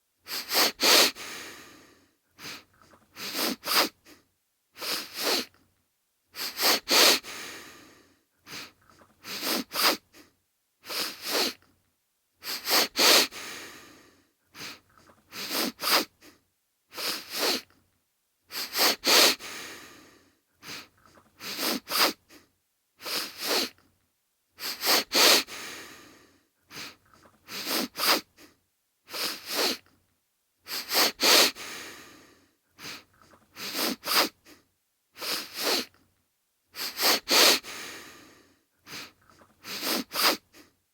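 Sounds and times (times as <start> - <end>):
man sniffling: 0.2 - 4.2, 4.8 - 5.5, 6.4 - 11.6, 12.4 - 17.7, 18.5 - 23.8, 24.6 - 29.8, 30.6 - 35.9, 36.7 - 40.8.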